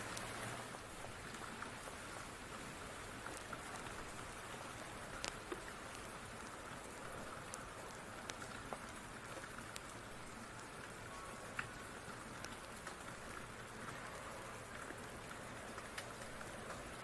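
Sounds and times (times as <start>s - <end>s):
steady rain falling: 0.0s - 17.0s
wood fire crackling: 0.0s - 17.0s.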